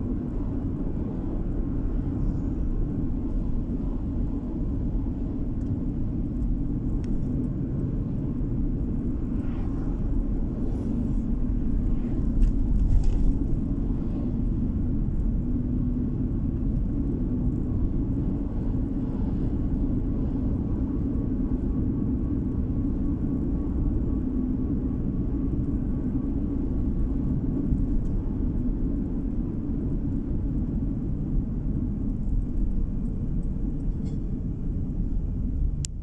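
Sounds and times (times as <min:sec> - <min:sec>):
car tyres and engine rumble: 0:00.0 - 0:36.0.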